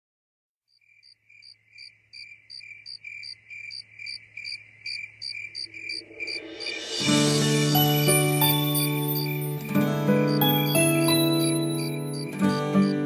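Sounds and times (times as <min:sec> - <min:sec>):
cricket chirping: 0:00.7 - 0:07.1, 0:07.8 - 0:13.0.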